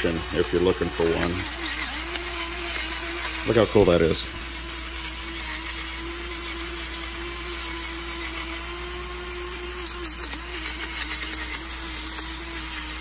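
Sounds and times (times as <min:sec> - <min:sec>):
electric pepper grinder whirring: 0:00.0 - 0:13.0.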